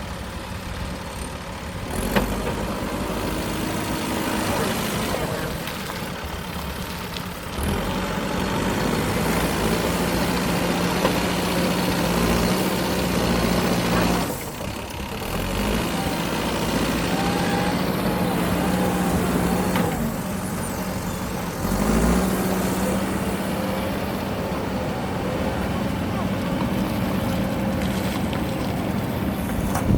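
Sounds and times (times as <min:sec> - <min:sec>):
heavy diesel machinery engine: 0:00.0 - 0:29.9.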